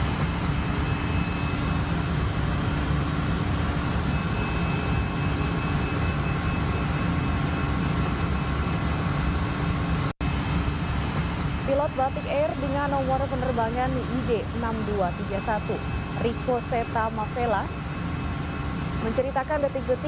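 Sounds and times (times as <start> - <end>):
jet engine and airflow noise: 0.0 - 20.0.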